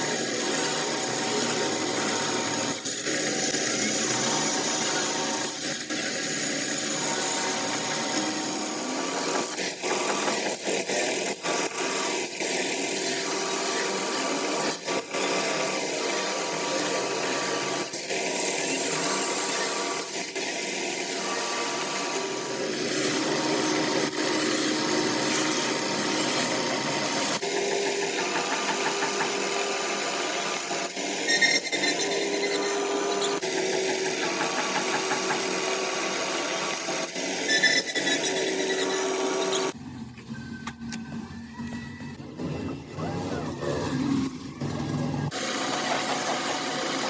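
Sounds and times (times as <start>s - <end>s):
metalworking machine running: 0.0s - 47.0s.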